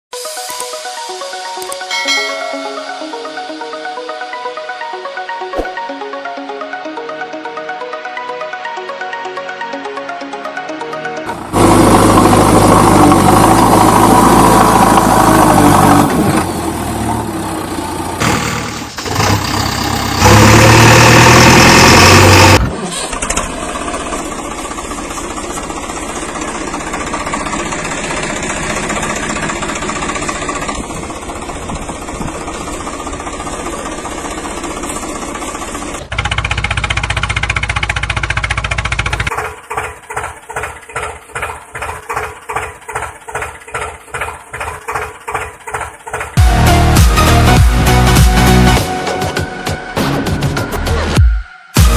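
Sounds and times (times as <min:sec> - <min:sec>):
diesel engines running: 0:00.5 - 0:51.2.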